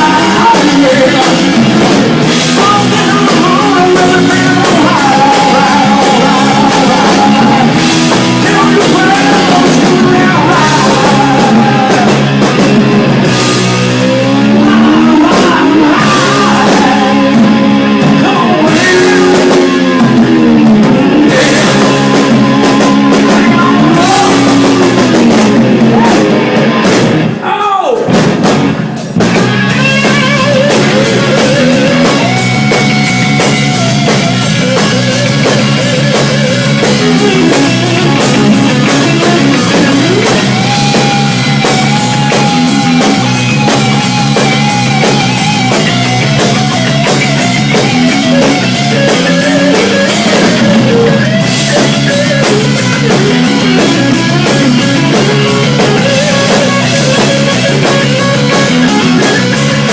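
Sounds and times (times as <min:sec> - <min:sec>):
electric guitar lead: 0:00.0 - 0:27.5, 0:28.3 - 0:59.9
bass guitar: 0:00.0 - 0:59.9
drum kit beat: 0:00.0 - 0:59.9.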